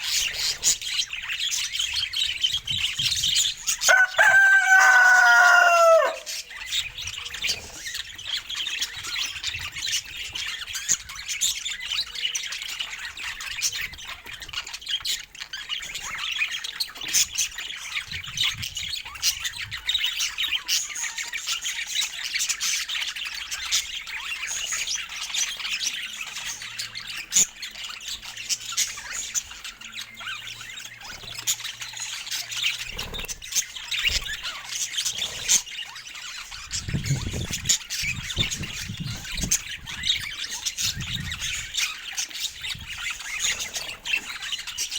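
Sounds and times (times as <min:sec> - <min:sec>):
budgerigars chattering: 0:00.0 - 0:44.9.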